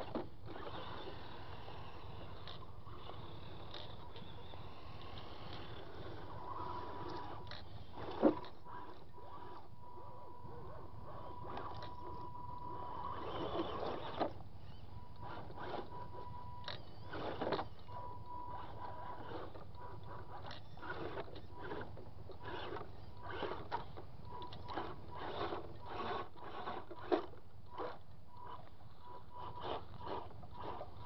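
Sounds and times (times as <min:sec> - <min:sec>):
thin electric motor whine: 0:00.0 - 0:31.0.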